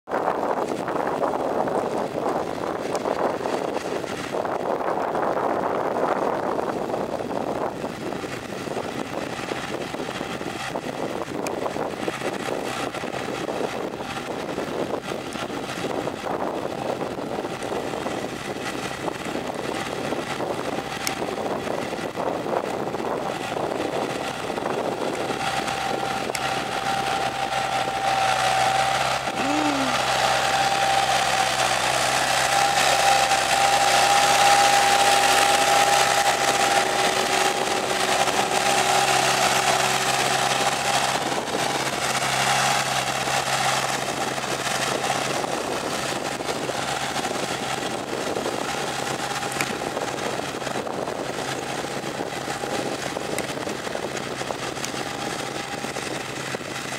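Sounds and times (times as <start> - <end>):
diesel tractor engine running: 0.1 - 56.9
steady high whine: 8.3 - 56.9.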